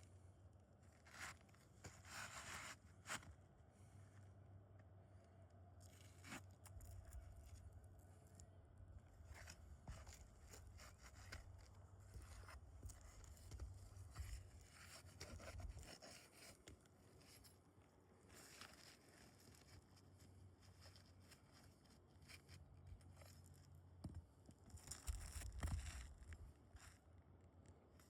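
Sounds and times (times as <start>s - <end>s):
faint scrapes and rustles: 0.0s - 28.0s.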